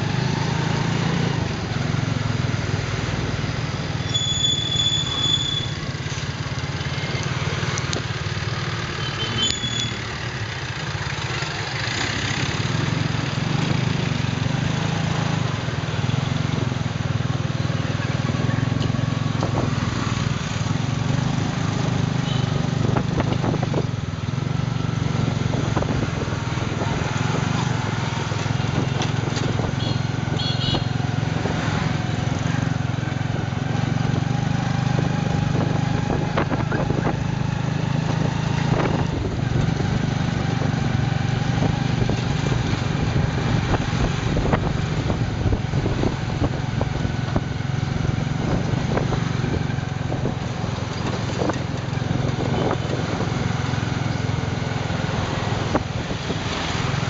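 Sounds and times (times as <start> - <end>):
street traffic: 0.0 - 57.0.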